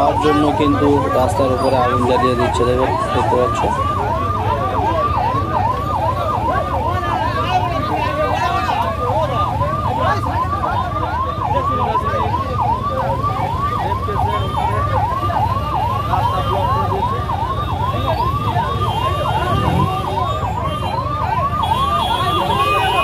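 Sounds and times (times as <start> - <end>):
crowd rumble: 0.0 - 23.0
emergency siren sweeping: 0.0 - 23.0.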